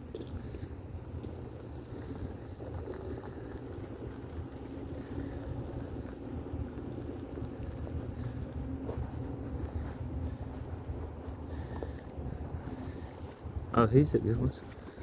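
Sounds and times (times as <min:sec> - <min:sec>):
faint droning hum: 0:00.0 - 0:15.0
wind buffeting microphone: 0:00.0 - 0:15.0.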